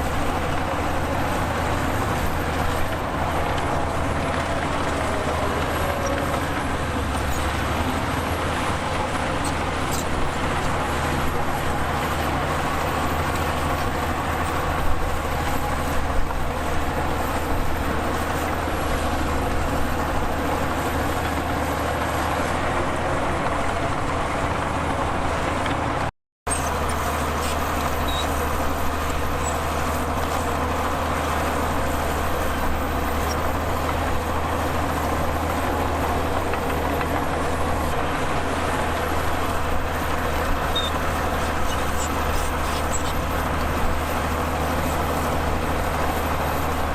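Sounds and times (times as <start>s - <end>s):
heavy diesel machinery droning: 0.0s - 46.9s.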